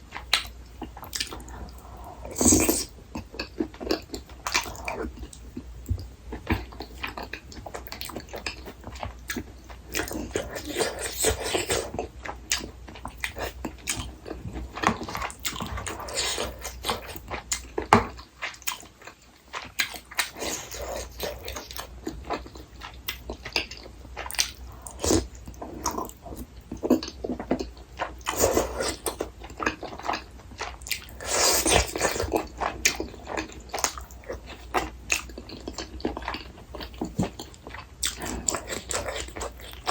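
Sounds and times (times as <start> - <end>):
person chewing and biting: 0.2 - 39.9.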